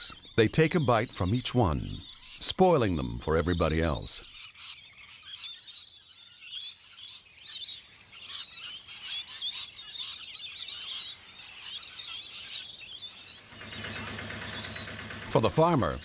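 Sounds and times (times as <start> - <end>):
lorikeets chattering and screeching: 0.0 - 16.0.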